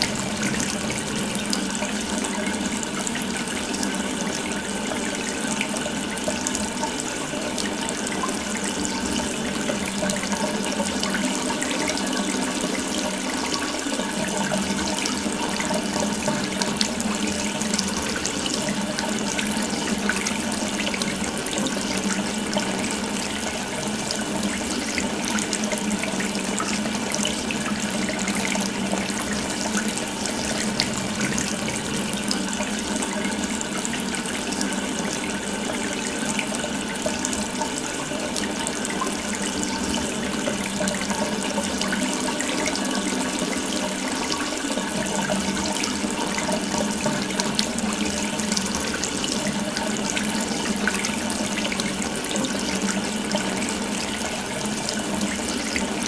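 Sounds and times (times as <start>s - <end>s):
water running from tap: 0.0s - 56.0s.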